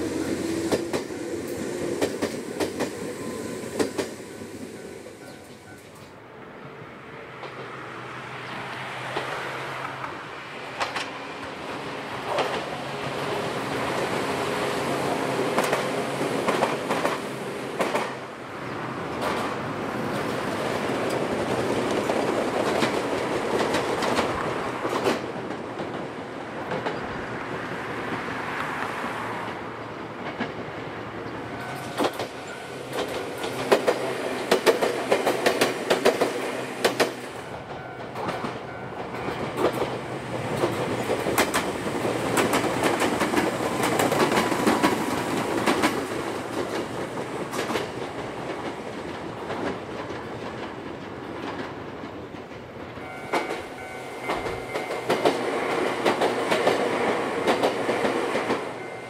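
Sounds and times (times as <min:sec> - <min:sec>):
train wheels clicking over rail joints: 0:00.0 - 0:06.8, 0:07.4 - 0:18.3, 0:19.0 - 0:28.3, 0:29.4 - 0:59.0
electric train rumbling past: 0:00.0 - 0:59.0.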